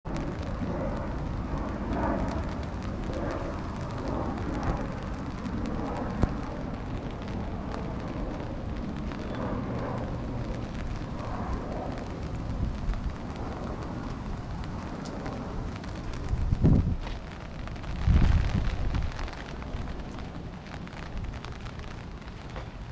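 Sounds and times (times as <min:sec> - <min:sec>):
rain on wet pavement: 0:00.0 - 0:22.9.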